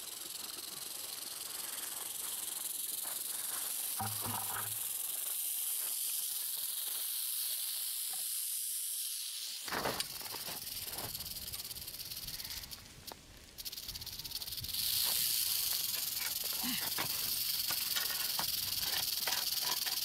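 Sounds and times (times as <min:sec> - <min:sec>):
rattlesnake rattle buzzing: 0:00.0 - 0:20.0.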